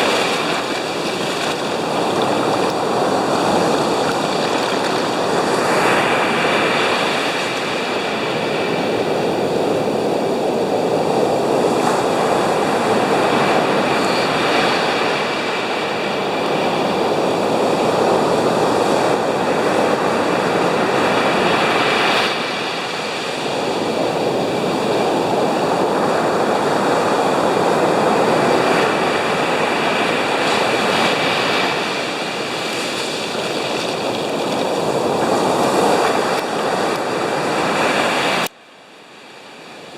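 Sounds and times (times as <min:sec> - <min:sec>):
surf waves breaking on beach: 0:00.0 - 0:39.9
wind: 0:00.0 - 0:39.9.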